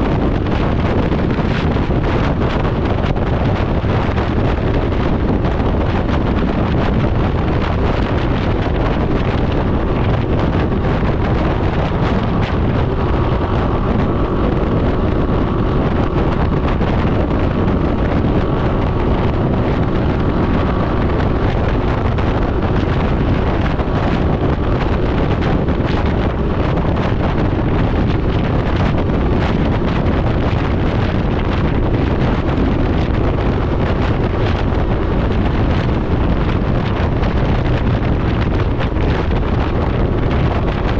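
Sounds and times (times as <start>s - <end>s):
motorbike engine running: 0.0s - 40.9s
wind rushing over microphone: 0.0s - 40.9s.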